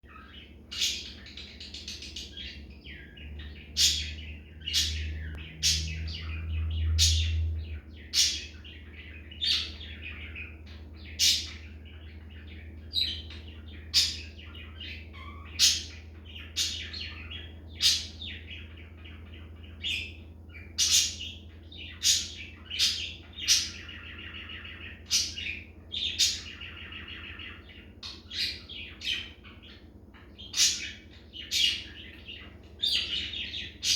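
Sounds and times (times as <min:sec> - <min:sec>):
low steady hum: 0:00.0 - 0:33.9
budgerigar warbling and chirping: 0:00.1 - 0:33.9.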